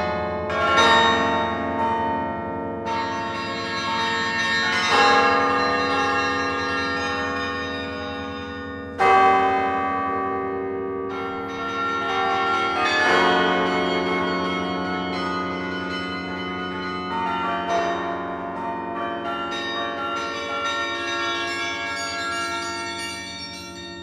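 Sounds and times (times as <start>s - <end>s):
carillon bell chords: 0.0s - 24.0s.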